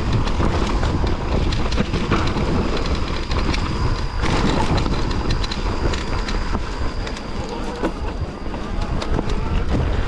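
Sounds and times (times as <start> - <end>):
bike rattling and knocking: 0.0 - 10.0
bike tyres rumbling on dirt: 0.0 - 10.0
wind on microphone: 0.0 - 10.0.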